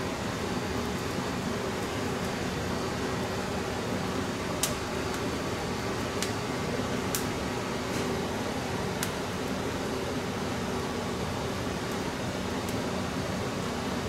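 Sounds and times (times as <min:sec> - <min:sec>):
open fire burning: 0:00.0 - 0:14.0
fire crackling: 0:00.1 - 0:14.0.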